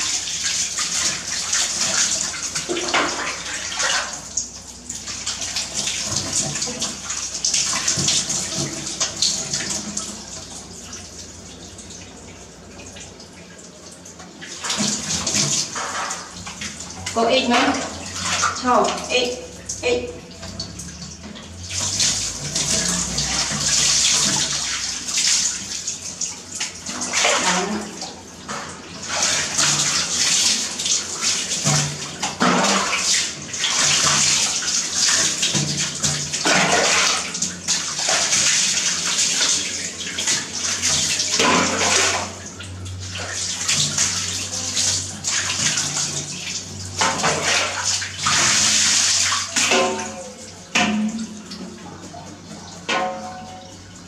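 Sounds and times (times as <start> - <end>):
water pouring and splashing: 0.0 - 54.0.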